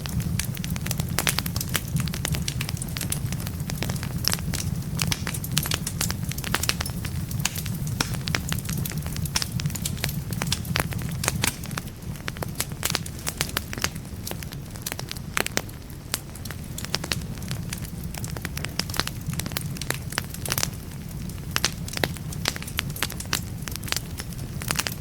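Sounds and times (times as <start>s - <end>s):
burning logs crackling and popping: 0.0s - 25.0s
low rumble of flames: 0.0s - 25.0s.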